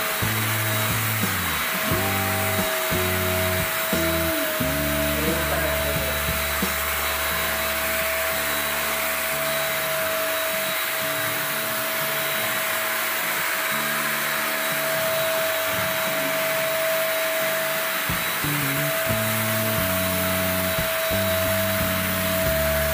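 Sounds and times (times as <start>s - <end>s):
electric paint spray gun running: 0.0s - 22.9s.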